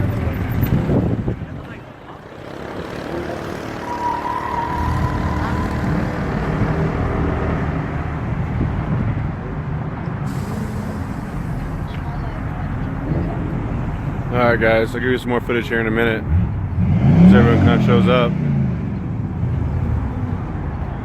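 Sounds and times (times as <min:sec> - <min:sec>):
car engines running: 0:00.0 - 0:21.0.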